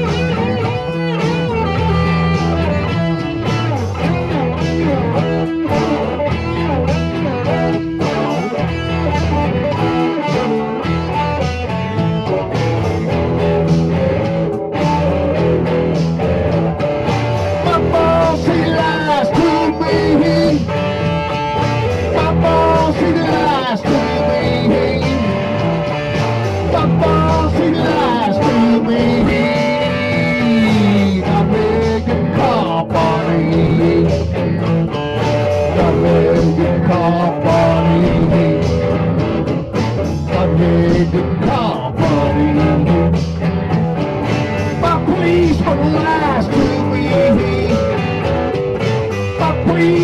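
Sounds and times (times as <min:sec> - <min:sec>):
blues rock band: 0:00.0 - 0:50.0
lead guitar bending and sliding: 0:00.0 - 0:50.0.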